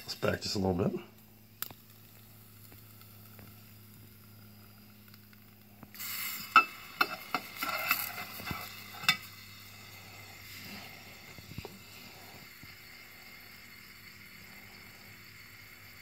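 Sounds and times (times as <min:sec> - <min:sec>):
faint steady hum: 0:00.0 - 0:16.0
liquid nitrogen boiling and sizzling: 0:00.0 - 0:16.0.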